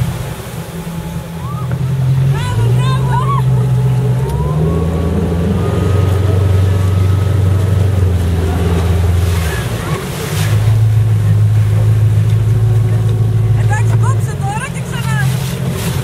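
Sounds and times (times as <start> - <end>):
motorboat engine running: 0.0 - 16.0
water rushing: 0.0 - 16.0.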